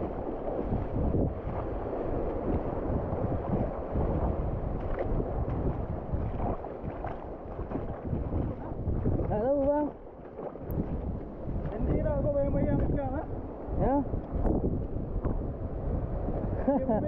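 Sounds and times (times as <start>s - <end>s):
small waves washing over reef: 0.0s - 17.0s
wind buffeting microphone: 0.0s - 17.0s.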